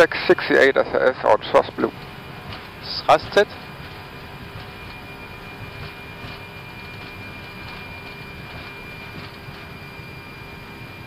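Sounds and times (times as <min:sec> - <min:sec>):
engines and wheels rumbling: 0:00.0 - 0:11.0.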